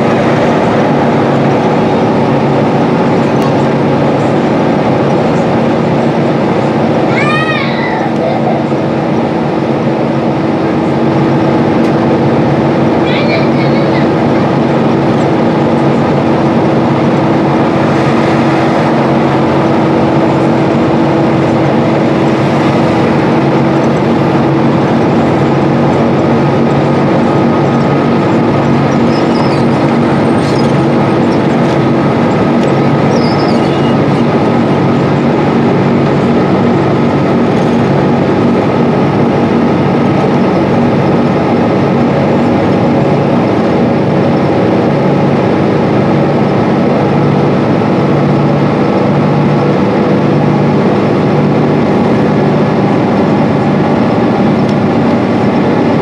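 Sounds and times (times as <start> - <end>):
bus diesel engine running: 0.0 - 56.0
road and tyre noise: 0.0 - 56.0.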